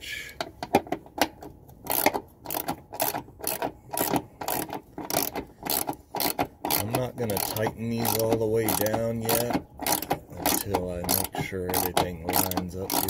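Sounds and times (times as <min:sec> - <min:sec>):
ratcheting socket wrench clicking: 0:01.8 - 0:13.0.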